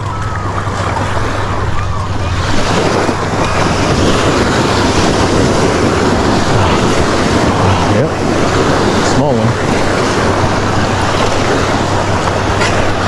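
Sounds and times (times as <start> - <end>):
surf washing in: 0.0 - 13.0
wind buffeting microphone: 0.0 - 13.0.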